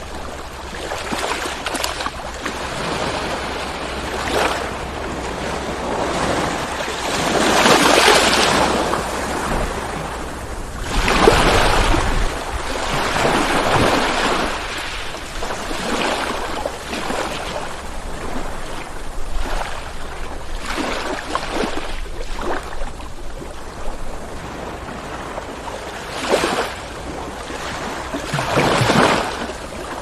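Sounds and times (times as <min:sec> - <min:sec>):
ocean waves surf: 0:00.0 - 0:30.0.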